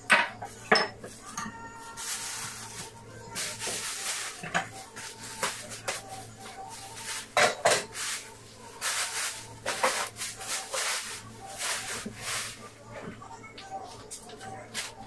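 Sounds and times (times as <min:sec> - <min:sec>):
kitchen items knocking and clattering: 0:00.0 - 0:13.2.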